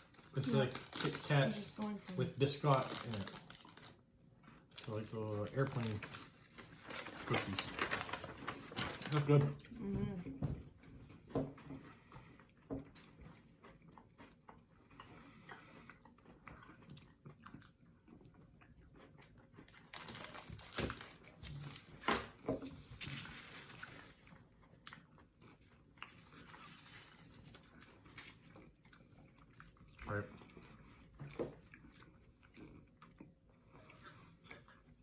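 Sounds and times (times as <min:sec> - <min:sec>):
people chewing crunchy wafer: 0:00.0 - 0:07.8, 0:10.8 - 0:35.0.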